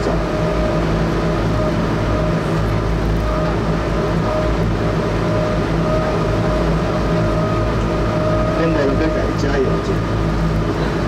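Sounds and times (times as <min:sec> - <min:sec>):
bus engine running: 0:00.0 - 0:11.0
thin whine: 0:00.0 - 0:11.0.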